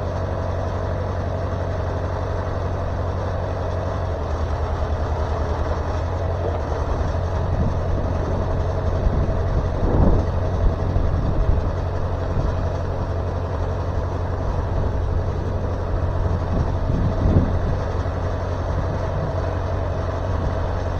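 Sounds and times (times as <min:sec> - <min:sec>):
sawmill engine running: 0:00.0 - 0:20.9.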